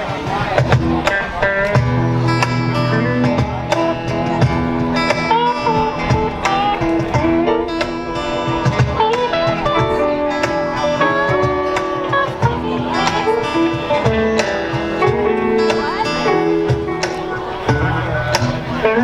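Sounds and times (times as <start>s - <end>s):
strummed guitars: 0.0s - 19.0s.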